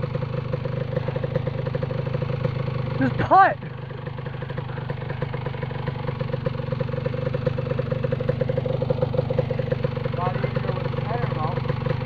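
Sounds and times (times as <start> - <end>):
quad engine running at low speed: 0.0 - 12.0.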